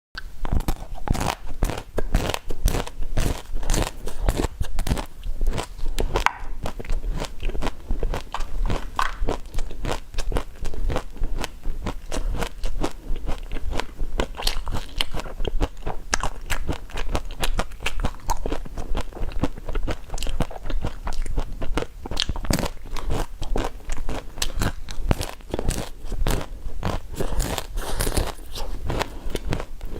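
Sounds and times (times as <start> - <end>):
person chewing crunchy food: 0.2 - 29.9.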